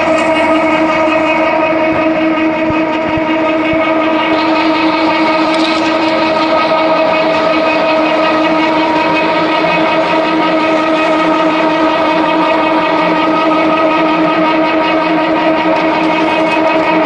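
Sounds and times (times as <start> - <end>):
machine whine: 0.0 - 17.0
noisy machine rumble: 0.0 - 17.0.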